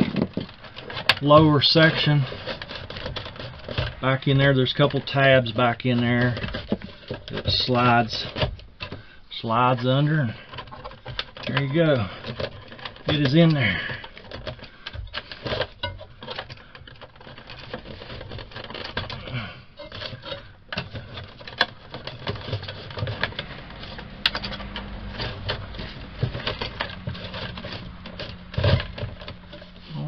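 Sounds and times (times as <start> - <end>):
clicks and scrapes of wires and metal: 0.0 - 30.0.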